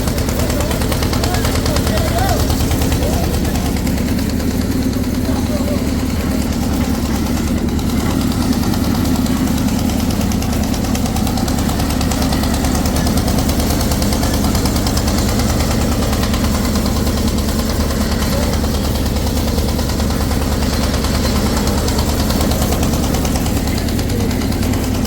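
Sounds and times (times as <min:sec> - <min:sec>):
engine chugging steadily: 0:00.0 - 0:25.0.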